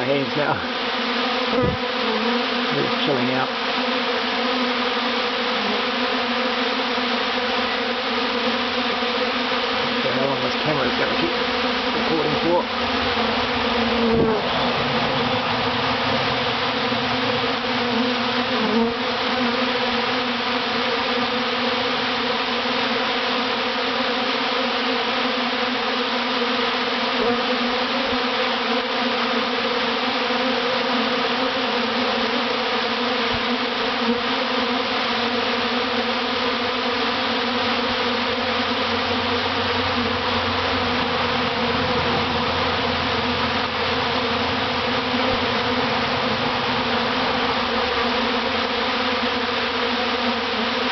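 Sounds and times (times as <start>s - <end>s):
bee swarm buzzing: 0.0s - 50.9s.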